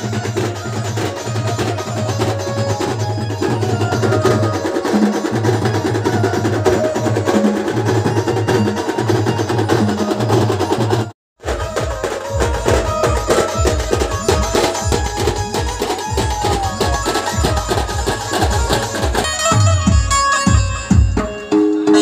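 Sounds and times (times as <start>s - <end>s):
band music with drum beat: 0.0s - 22.0s.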